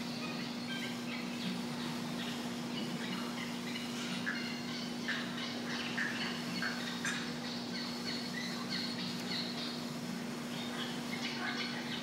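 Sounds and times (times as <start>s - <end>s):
steady low hum: 0.0s - 12.0s
water birds calling and squawking: 0.0s - 12.0s.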